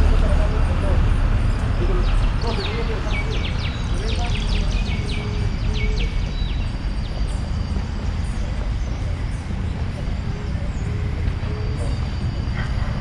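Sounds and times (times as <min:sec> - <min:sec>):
low rumble of street or wind: 0:00.0 - 0:13.0
small birds chirping: 0:00.0 - 0:13.0.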